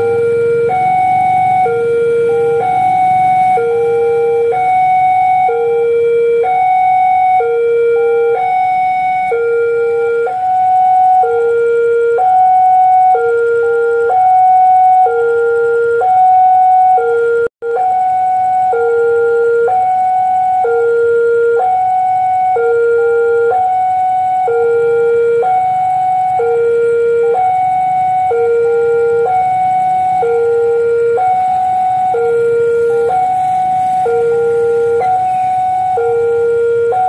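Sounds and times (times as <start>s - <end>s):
level crossing two-tone alarm: 0.0s - 37.0s.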